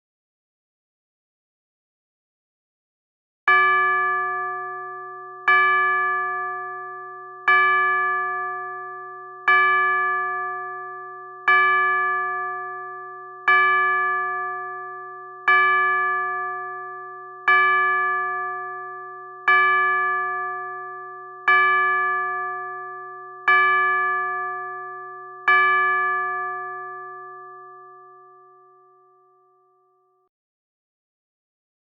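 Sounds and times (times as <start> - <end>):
clock tower bell striking: 3.5 - 29.5.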